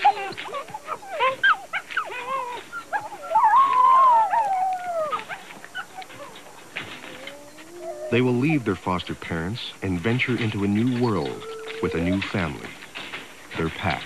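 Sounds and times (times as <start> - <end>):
wolves whining and yelping: 0.0 - 8.8, 10.3 - 13.2.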